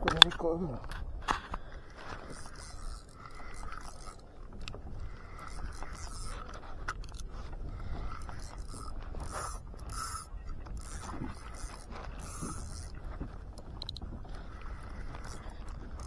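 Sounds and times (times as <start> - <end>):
fishing reel whirring: 0.1 - 16.0.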